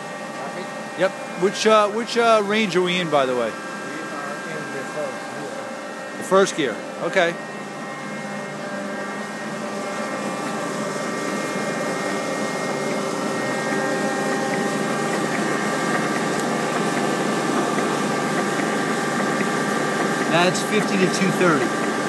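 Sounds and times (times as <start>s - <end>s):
lathe whining and humming: 0.0s - 22.0s.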